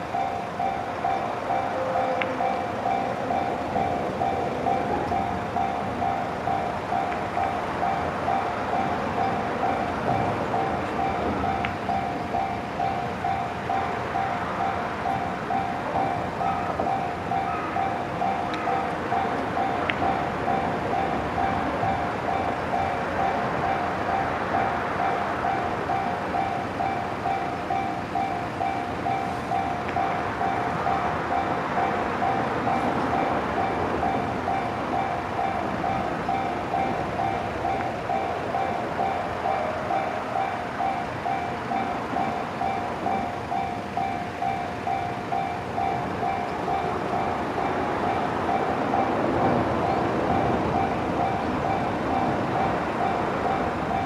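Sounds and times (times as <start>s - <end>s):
level crossing bell ringing: 0.0s - 54.0s
train wheels rumbling on rails: 0.0s - 54.0s.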